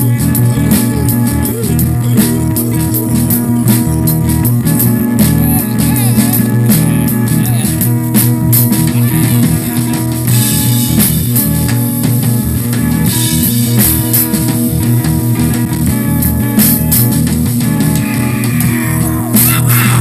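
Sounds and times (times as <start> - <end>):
rock music with drums and guitar: 0.0 - 20.0.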